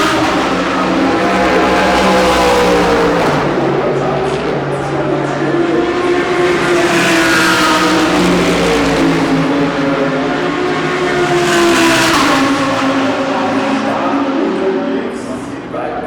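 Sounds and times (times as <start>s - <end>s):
race cars passing at speed: 0.0s - 16.0s.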